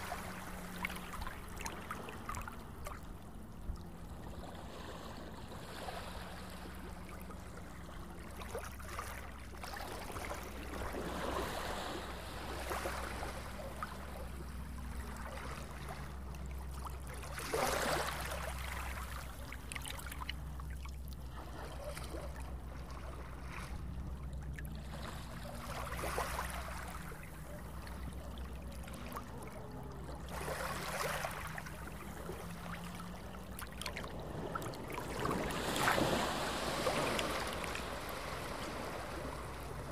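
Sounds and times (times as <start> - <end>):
sea water lapping: 0.0 - 39.9.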